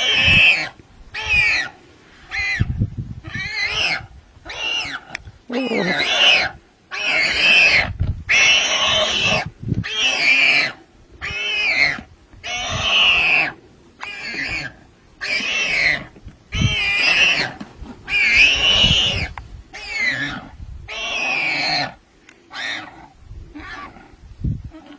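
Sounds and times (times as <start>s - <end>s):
animal crying out harshly: 0.0s - 24.1s.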